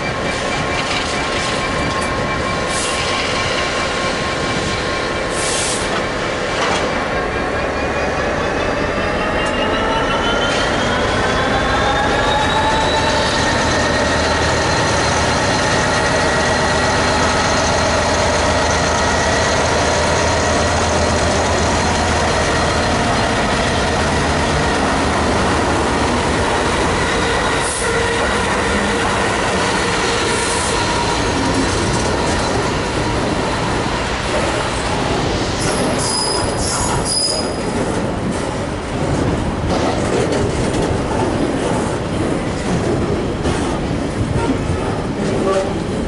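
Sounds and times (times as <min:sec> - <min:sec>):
diesel locomotive whine: 0:00.0 - 0:46.0
train wheels rumbling on rails: 0:00.0 - 0:46.0.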